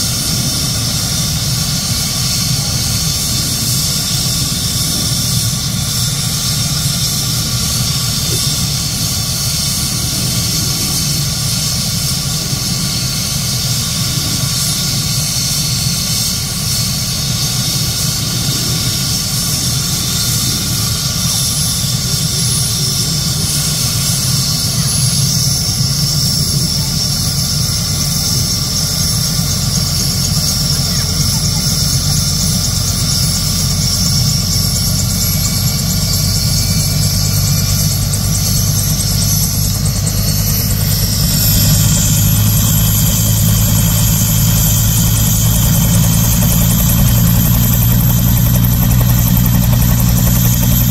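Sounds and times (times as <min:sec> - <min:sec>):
helicopter rotor beat: 0:00.0 - 0:50.9
helicopter turbine whine: 0:00.0 - 0:50.9.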